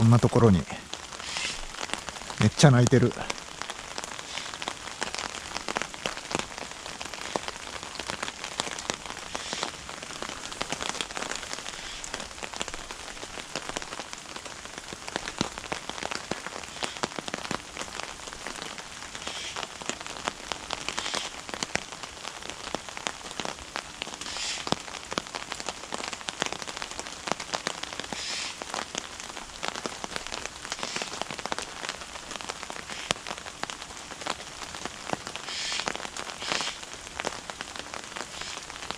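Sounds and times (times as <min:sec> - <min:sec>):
rain falling: 0:00.0 - 0:38.9
raindrops ticking: 0:00.0 - 0:38.9.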